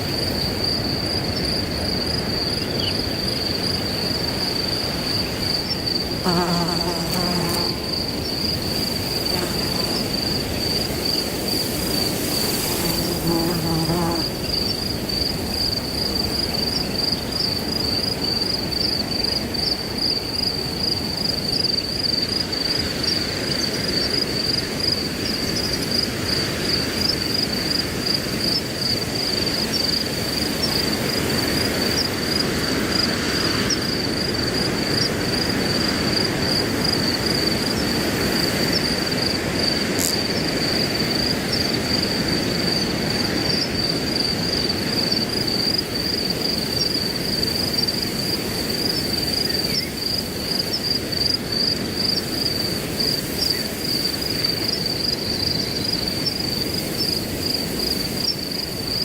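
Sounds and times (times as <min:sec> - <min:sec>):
crickets chirping: 0:00.0 - 0:59.0
wind through grass: 0:00.0 - 0:59.0.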